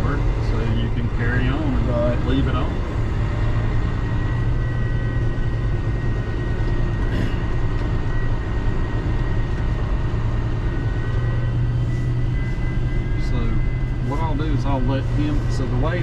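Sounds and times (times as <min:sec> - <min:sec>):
diesel truck engine drone: 0:00.0 - 0:16.0
faint high whine: 0:00.0 - 0:16.0.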